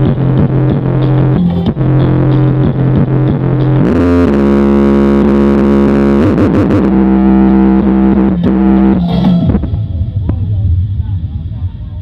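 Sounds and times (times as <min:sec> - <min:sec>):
distorted electronic music heavy bass: 0:00.0 - 0:12.0.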